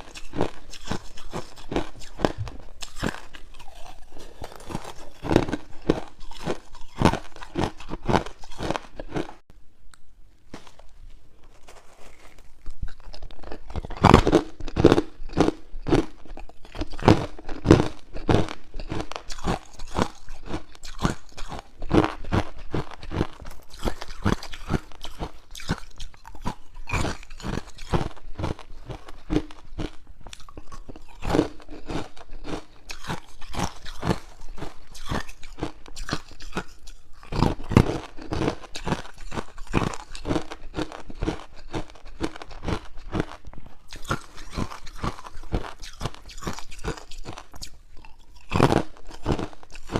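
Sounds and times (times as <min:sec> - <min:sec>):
person crunching ice cubes: 0:00.0 - 0:09.4, 0:10.5 - 0:49.9.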